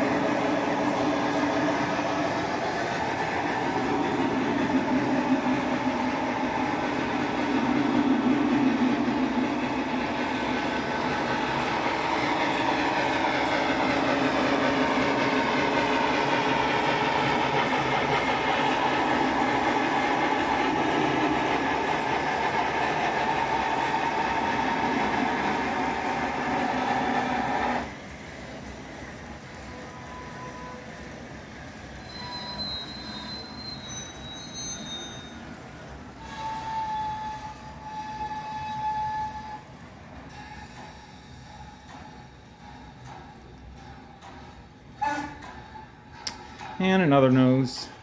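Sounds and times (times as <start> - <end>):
model steam locomotive sounds: 0.0 - 48.0.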